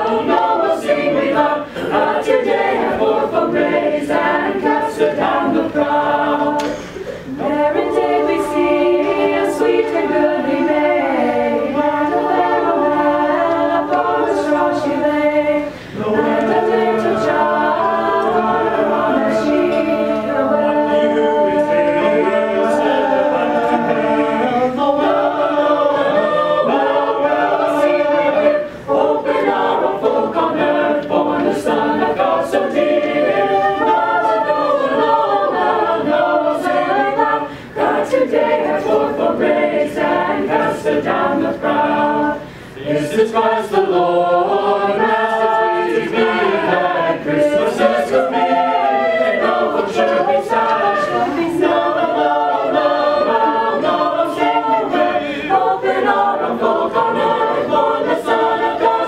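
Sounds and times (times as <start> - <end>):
choir singing in harmony: 0.0 - 59.0.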